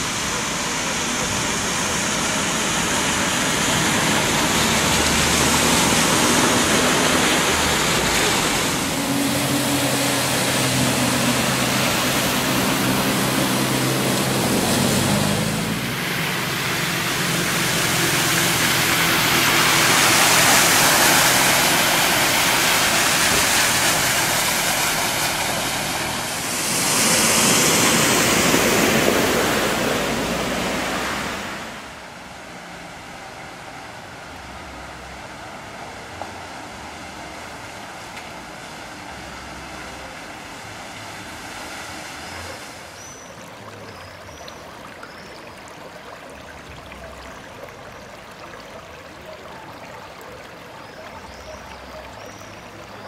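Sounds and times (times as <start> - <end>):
car engines running: 0.0 - 44.4
floodwater rushing: 0.0 - 53.0
tyres splashing through water: 0.0 - 53.0.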